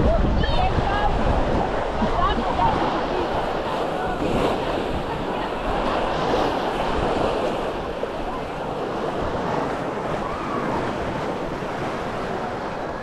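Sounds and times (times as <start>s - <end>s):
waves washing onto sandy beach: 0.0s - 13.0s
wind buffeting microphone: 0.0s - 13.0s.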